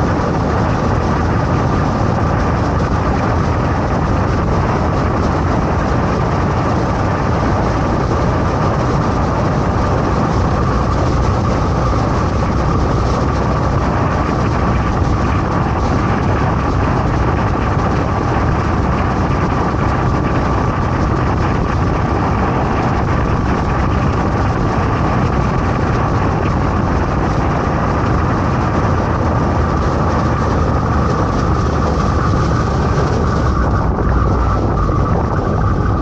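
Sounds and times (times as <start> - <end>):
motorcycle engine and road noise: 0.0 - 36.0
steady high whine: 0.0 - 36.0.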